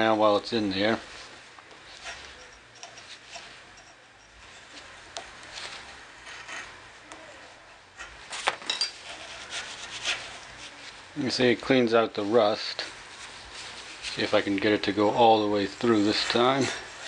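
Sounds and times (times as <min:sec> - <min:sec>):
steel wool scrubbing metal: 0:00.0 - 0:05.1, 0:05.8 - 0:17.0.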